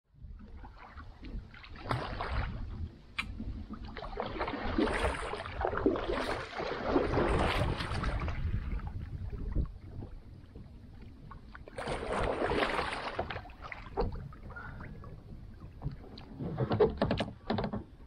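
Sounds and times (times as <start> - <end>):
water splashing around kayak: 0.1 - 18.0.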